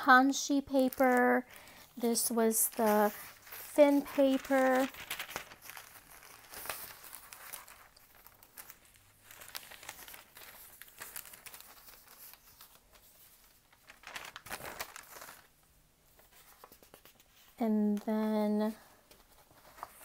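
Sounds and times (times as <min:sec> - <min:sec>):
thin paper rustling and crinkling: 0:00.4 - 0:17.6, 0:18.7 - 0:20.0.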